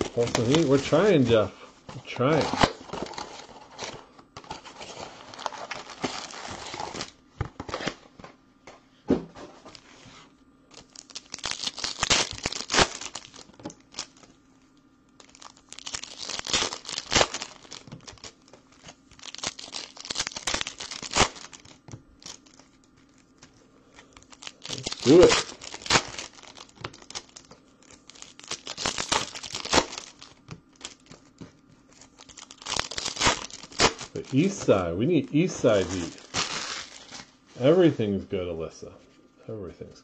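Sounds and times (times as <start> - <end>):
card pack wrappers crinkling and tearing: 0.0 - 8.0, 10.7 - 14.4, 15.1 - 37.4.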